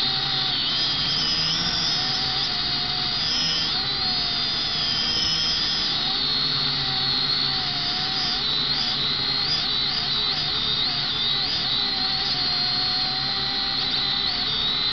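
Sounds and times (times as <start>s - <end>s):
drone propellers whining: 0.0s - 14.9s.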